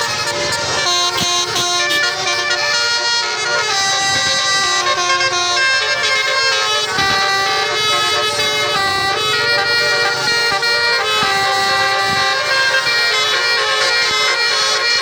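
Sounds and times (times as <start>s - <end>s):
musical bus horn tune: 0.0s - 15.0s.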